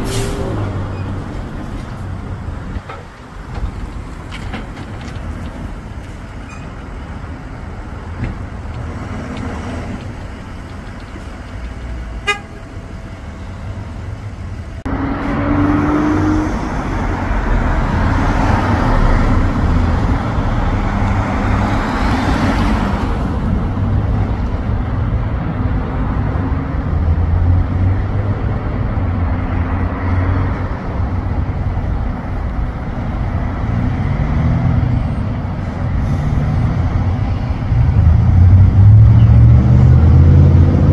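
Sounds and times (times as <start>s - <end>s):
truck diesel engine rumbling: 0.0s - 40.9s.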